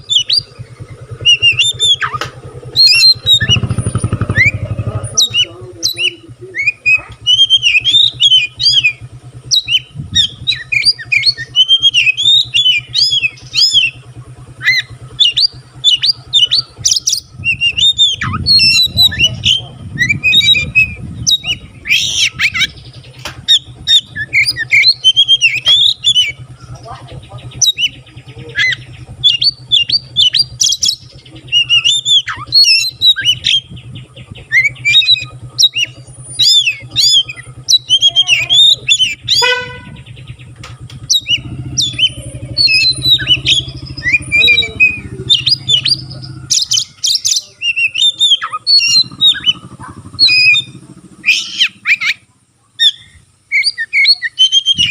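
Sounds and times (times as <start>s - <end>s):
bird singing varied whistles: 0.0s - 52.2s, 52.8s - 54.9s
low steady hum: 0.0s - 54.9s.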